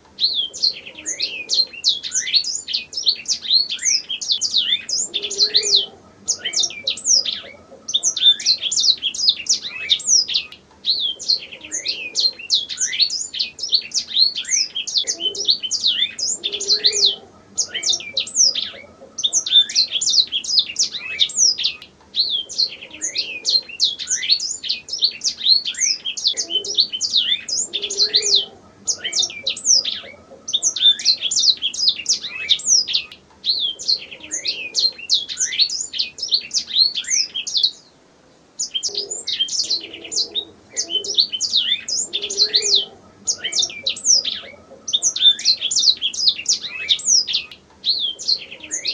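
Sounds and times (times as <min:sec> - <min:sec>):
canary singing: 0:00.0 - 0:37.9, 0:38.6 - 0:48.9.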